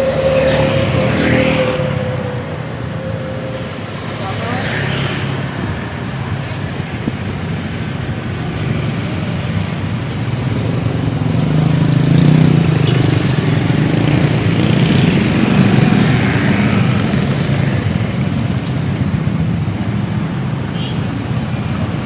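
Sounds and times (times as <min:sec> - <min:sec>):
vehicle engines passing on road: 0:00.0 - 0:22.0.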